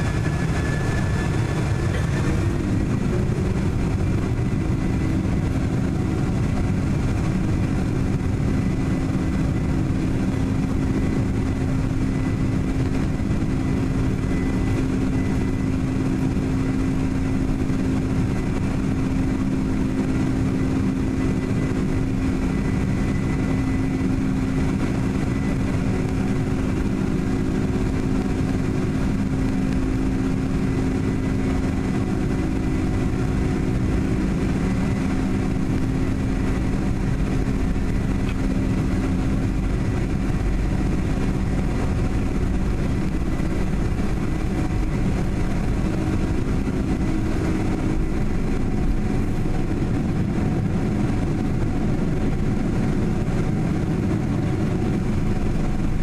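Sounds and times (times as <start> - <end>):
faint high whine: 0.0 - 56.0
jet engines droning: 0.0 - 56.0.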